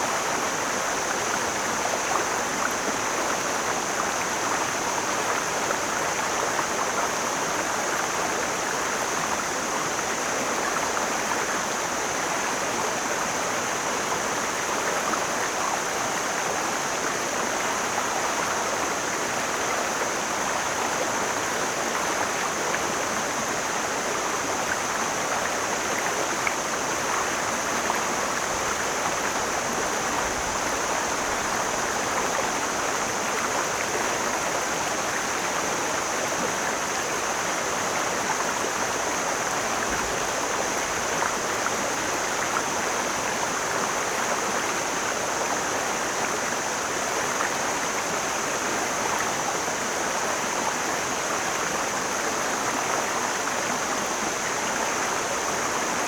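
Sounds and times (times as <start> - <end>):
stream rushing water: 0.0 - 56.0.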